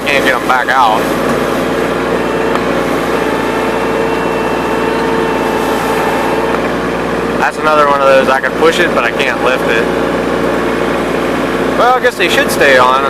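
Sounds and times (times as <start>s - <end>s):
hydraulic high whine: 0.0s - 13.0s
tractor diesel engine running: 0.0s - 13.0s.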